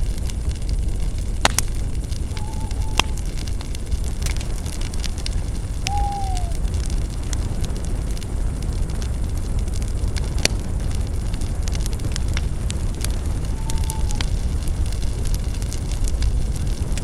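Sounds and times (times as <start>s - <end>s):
campfire crackling and popping: 0.0s - 17.0s
low rumble: 0.0s - 17.0s.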